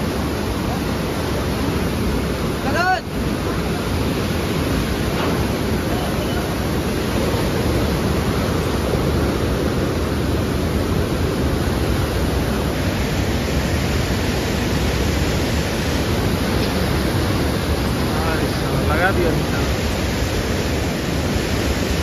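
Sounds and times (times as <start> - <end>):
river water rushing through gates: 0.0 - 22.0.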